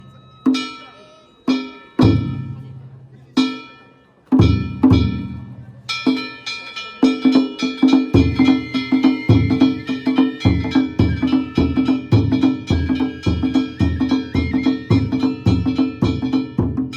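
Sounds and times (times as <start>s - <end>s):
ringing hand gongs: 0.0s - 16.9s
taiko drum beats: 0.0s - 16.9s.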